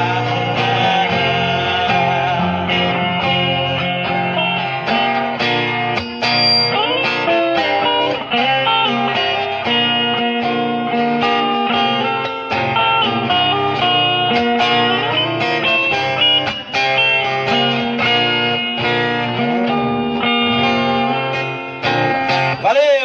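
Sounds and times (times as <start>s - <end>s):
guitar with bending notes: 0.0s - 23.0s
live band playing: 0.0s - 23.0s.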